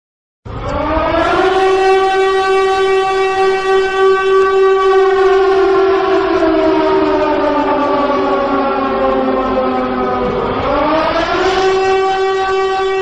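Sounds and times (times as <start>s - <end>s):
fire alarm siren wailing: 0.5s - 13.0s.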